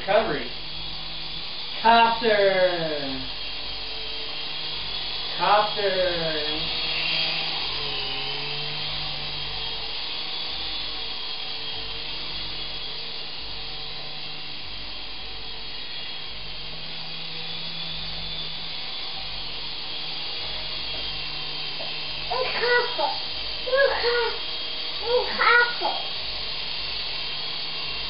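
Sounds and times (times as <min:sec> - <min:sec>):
toy helicopter rotors whirring: 0:00.0 - 0:28.0.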